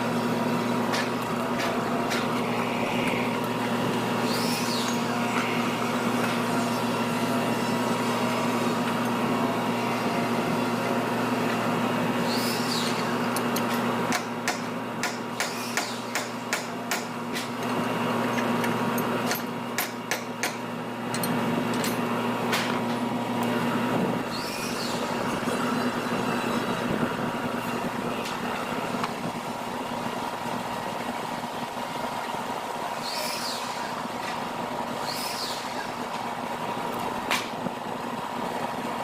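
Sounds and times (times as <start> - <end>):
workshop machinery hum: 0.0 - 39.0.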